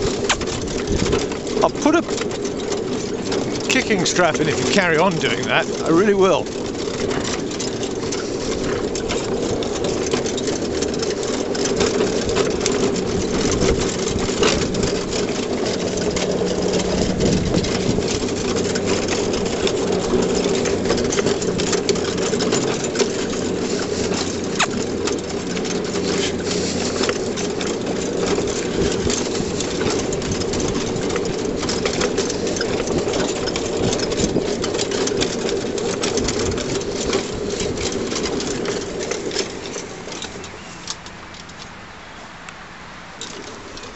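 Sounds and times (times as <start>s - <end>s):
small clicks and knocks: 0.0s - 41.8s
cart wheels rumbling and rattling: 0.0s - 43.9s.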